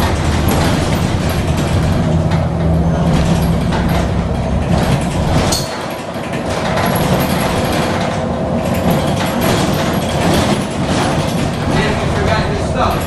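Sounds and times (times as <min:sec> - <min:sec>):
bus cabin rattling: 0:00.0 - 0:13.0
bus engine and road noise: 0:00.0 - 0:13.0.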